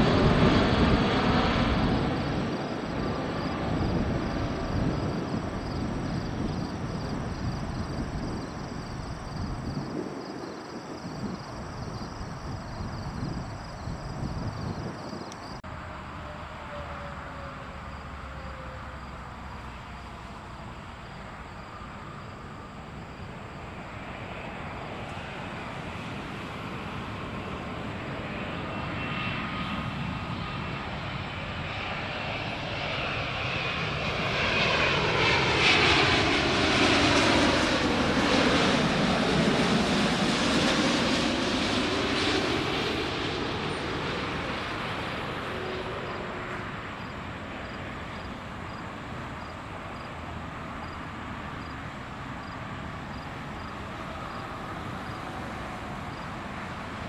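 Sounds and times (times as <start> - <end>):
airliner passing overhead: 0.0 - 57.0.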